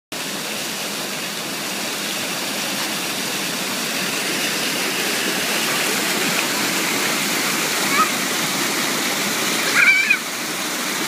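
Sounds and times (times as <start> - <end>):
pool water splashing: 0.1 - 11.0.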